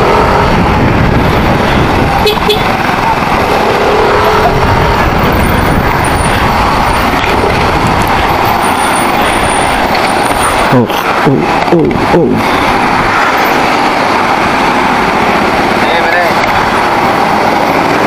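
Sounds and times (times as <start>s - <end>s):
wind on microphone: 0.0s - 15.8s
motorcycle engine: 0.0s - 18.0s
surrounding traffic: 0.0s - 18.0s.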